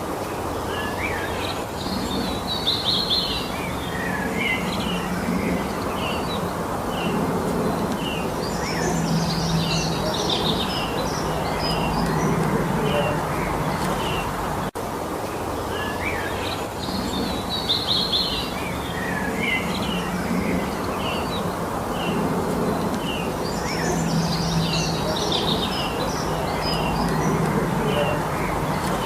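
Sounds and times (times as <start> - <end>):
songbirds singing and chirping: 0.0 - 29.0
steady background hiss: 0.0 - 29.0.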